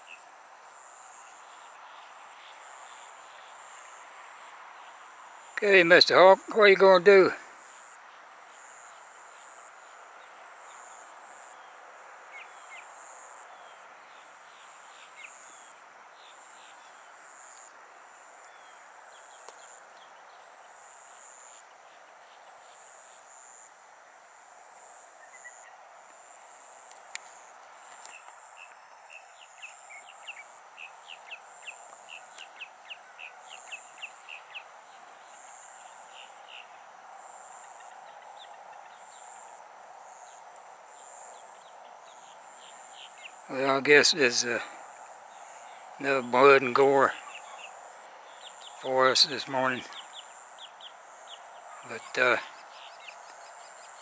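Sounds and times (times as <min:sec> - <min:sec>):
faint steady hiss: 0:00.0 - 0:54.0
insects buzzing: 0:00.0 - 0:54.0.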